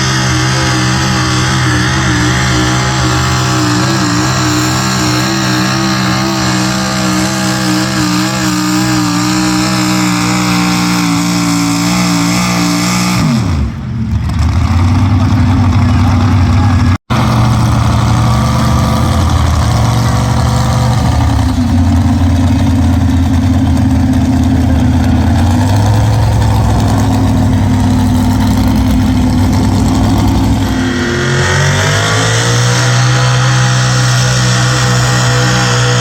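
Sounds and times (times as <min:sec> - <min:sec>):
truck engine running loud: 0:00.0 - 0:36.0.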